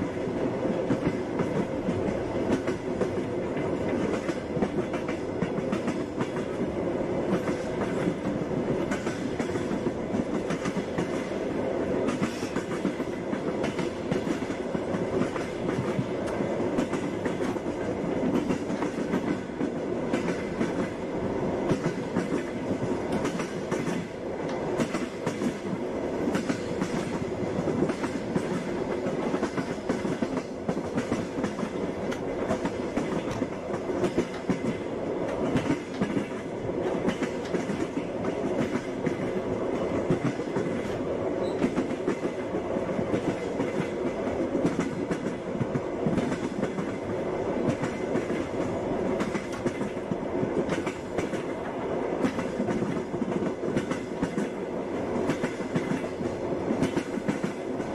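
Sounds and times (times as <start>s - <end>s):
train rumble: 0.0s - 57.9s
train wheels clickety-clack: 0.0s - 57.9s.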